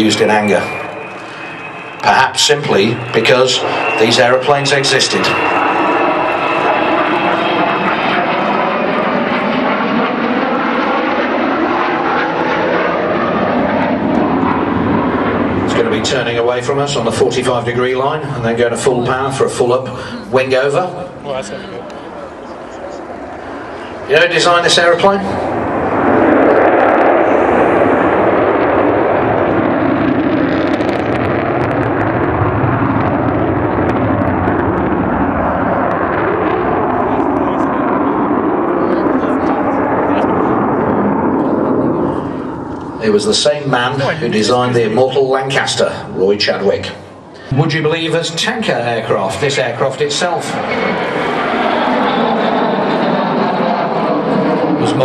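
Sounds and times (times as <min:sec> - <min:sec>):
jet aircraft flying past: 0:00.0 - 0:55.0.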